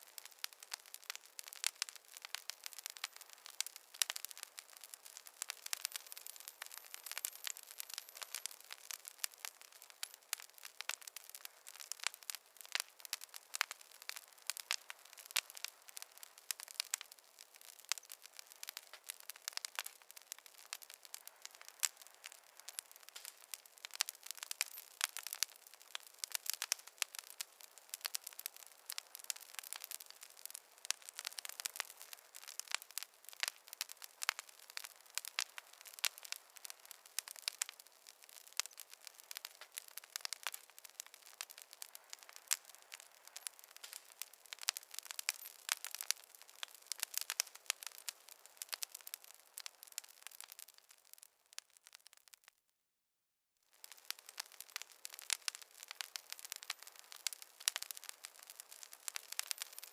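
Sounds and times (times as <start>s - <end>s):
wood fire crackling: 0.0s - 52.6s, 53.7s - 59.9s.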